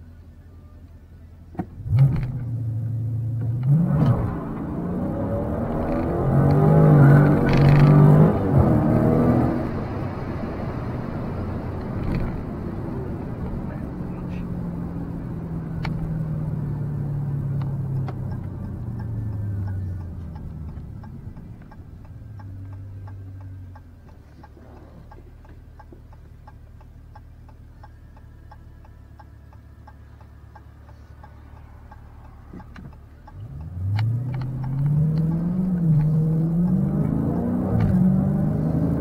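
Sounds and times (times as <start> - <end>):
car engine idling and revving: 0.0 - 39.0
turn signal clicking: 1.5 - 13.6, 14.3 - 39.0.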